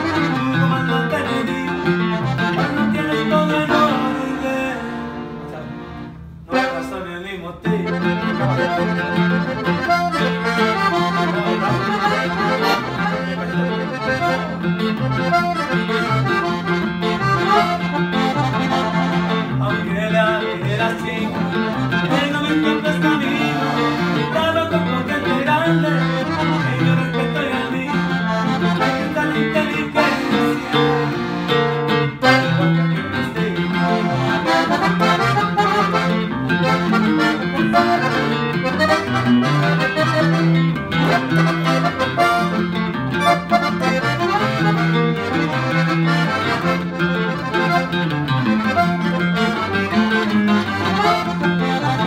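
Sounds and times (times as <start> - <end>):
acoustic guitar: 0.0 - 52.0
button accordion: 0.0 - 52.0.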